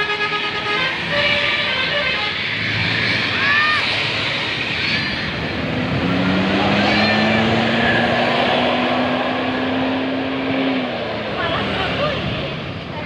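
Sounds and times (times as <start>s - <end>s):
bus engine: 0.0s - 13.0s
traffic rush: 0.0s - 13.0s.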